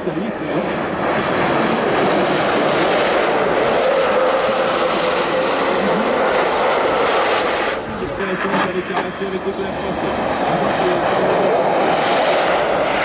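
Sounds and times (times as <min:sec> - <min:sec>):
tyres rushing on snow and ice: 0:00.1 - 0:13.0.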